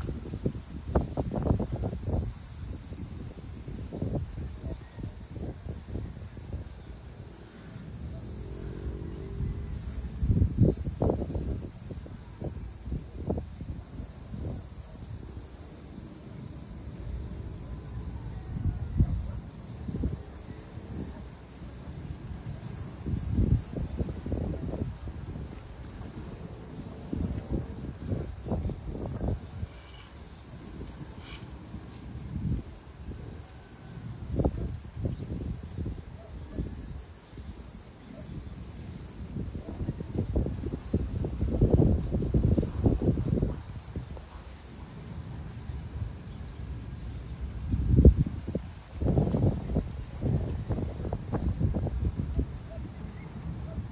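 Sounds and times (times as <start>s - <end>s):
insects trilling: 0.0s - 53.9s
wind gusting against microphone: 0.0s - 53.9s.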